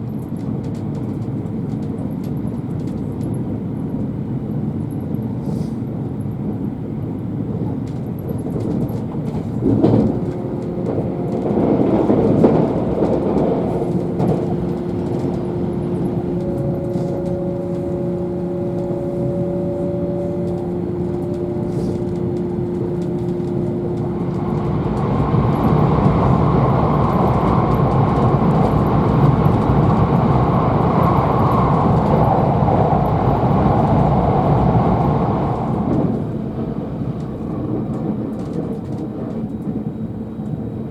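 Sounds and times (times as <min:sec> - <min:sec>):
train hum: 0:00.0 - 0:40.9
train wheels rumbling on rail: 0:00.0 - 0:40.9.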